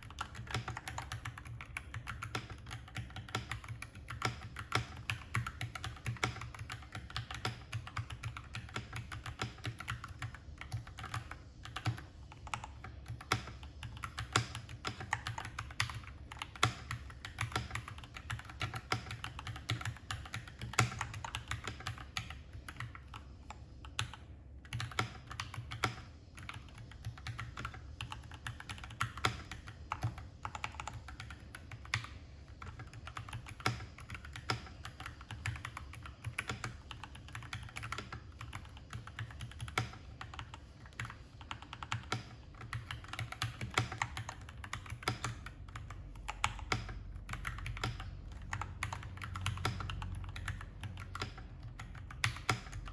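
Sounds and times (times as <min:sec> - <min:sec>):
mechanical keyboard typing: 0:00.0 - 0:52.9.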